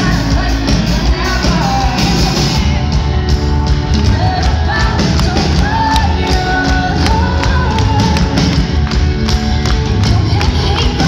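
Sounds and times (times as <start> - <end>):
pop-rock band playing live: 0.0 - 11.0.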